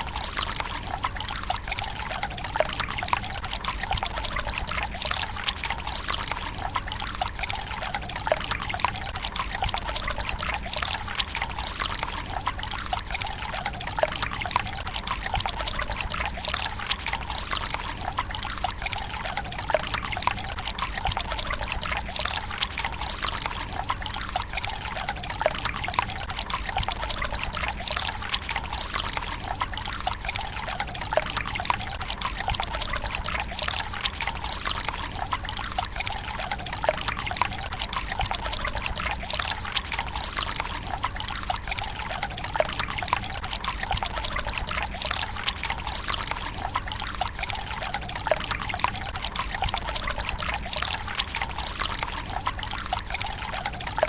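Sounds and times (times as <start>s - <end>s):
water trickling into stone basin: 0.0s - 54.0s.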